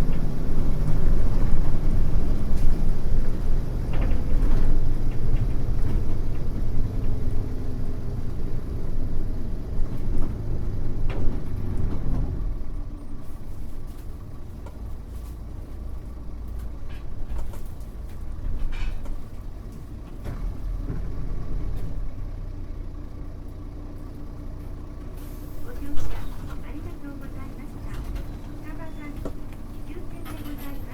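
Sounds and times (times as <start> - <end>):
bus engine rumbling: 0.0 - 30.9.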